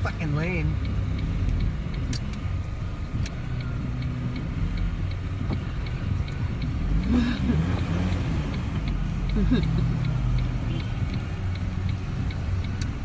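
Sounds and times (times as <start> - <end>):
car engine and road noise: 0.0 - 13.0
turn signal ticking: 0.0 - 13.0.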